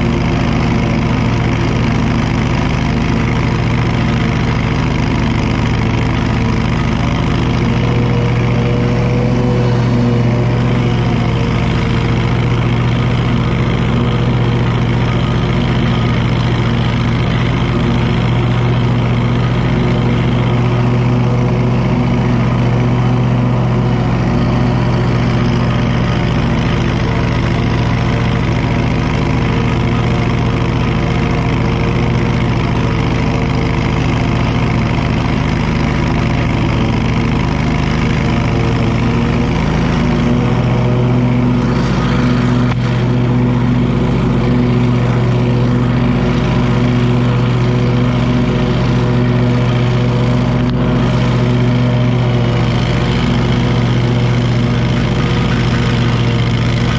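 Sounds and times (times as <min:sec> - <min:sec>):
lawn mower engine running: 0:00.0 - 0:56.9.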